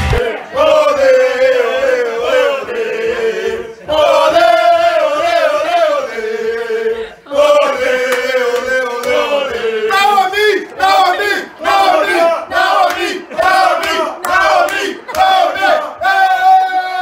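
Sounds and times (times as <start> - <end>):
crowd chanting: 0.0 - 17.0.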